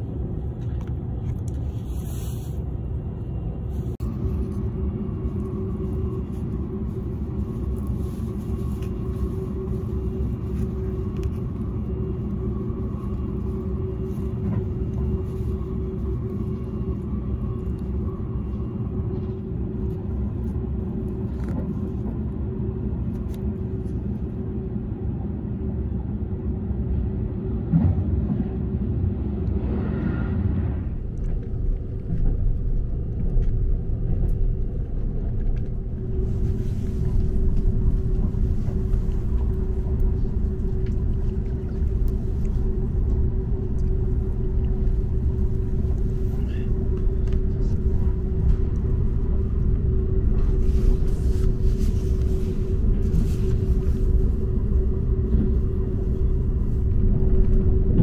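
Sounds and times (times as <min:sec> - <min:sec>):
faint steady hum: 0:00.0 - 0:27.7, 0:28.7 - 0:58.0
train cabin rumble: 0:00.0 - 0:58.0.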